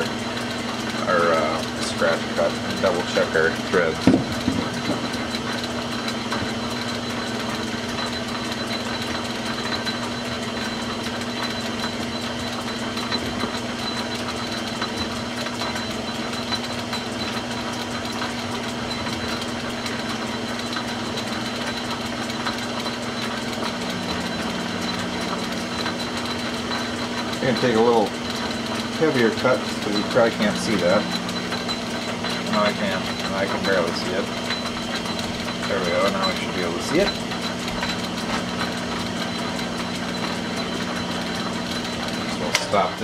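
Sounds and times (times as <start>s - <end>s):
metal lathe motor hum: 0.0s - 43.0s
second lower hum: 4.0s - 43.0s.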